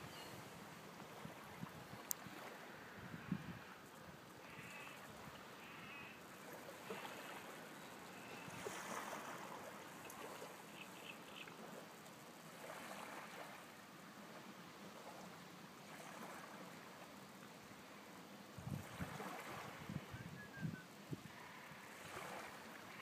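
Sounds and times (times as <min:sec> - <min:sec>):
lake water lapping: 0:00.0 - 0:18.2, 0:18.8 - 0:20.1, 0:21.3 - 0:23.0.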